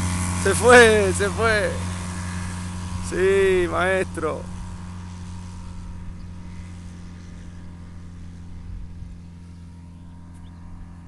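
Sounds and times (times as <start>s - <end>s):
light aircraft engine humming: 0.0s - 11.0s.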